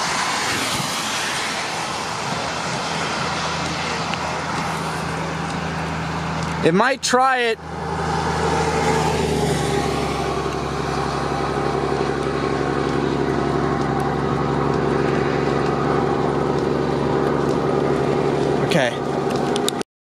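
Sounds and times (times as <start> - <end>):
car engine idling: 0.0 - 19.8.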